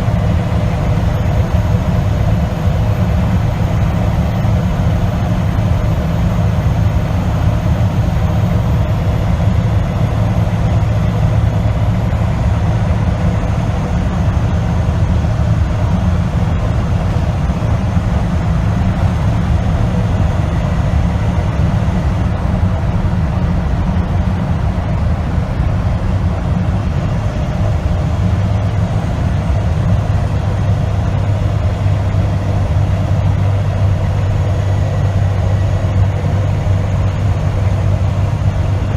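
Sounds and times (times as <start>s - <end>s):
truck engine and road drone: 0.0s - 38.9s.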